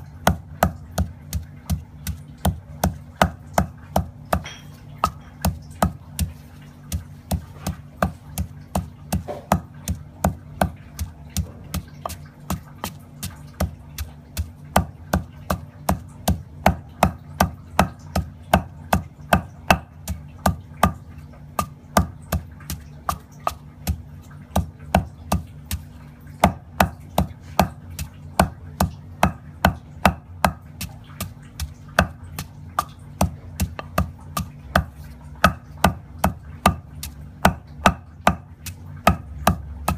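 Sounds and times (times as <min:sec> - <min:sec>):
pestle thudding in stone mortar: 0:00.0 - 0:39.9.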